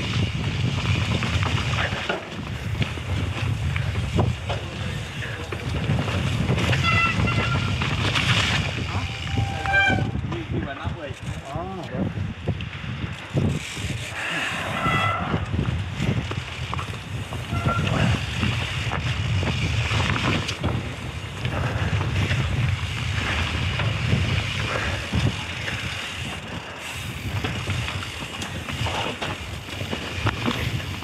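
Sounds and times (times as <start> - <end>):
bike jolts and clatters: 0.0 - 31.0
bike tyres rumbling on dirt trail: 0.0 - 31.0.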